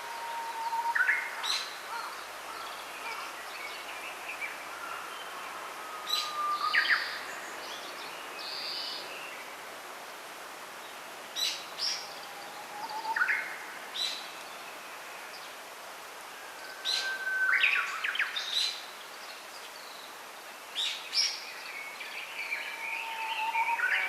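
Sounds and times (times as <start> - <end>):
steady faint hiss: 0.0 - 24.0
small songbirds chirping: 0.8 - 9.8, 10.7 - 24.0.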